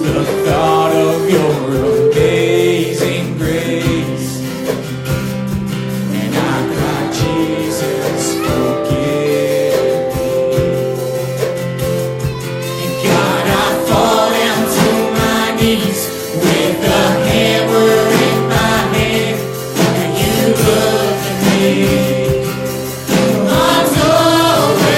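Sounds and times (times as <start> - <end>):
congregation singing a hymn: 0.0 - 5.1, 5.9 - 11.0, 12.8 - 24.9
instrumental accompaniment: 0.0 - 24.9.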